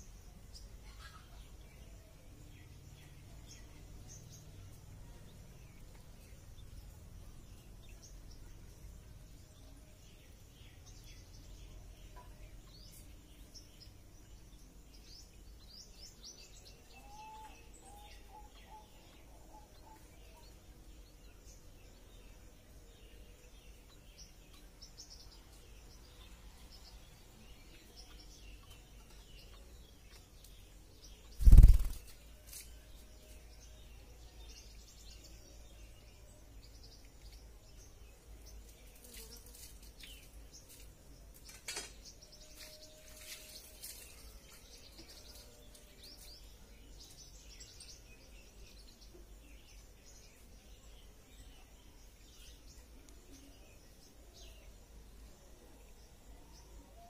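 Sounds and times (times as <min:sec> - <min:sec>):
faint bird chirps: 0:00.0 - 0:57.0.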